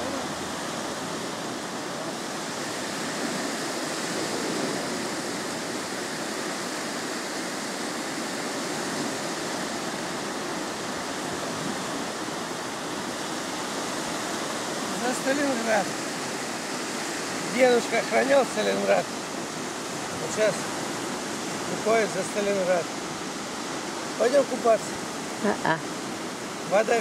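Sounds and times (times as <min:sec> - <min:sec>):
waves breaking on a sandy beach: 0:00.0 - 0:27.0.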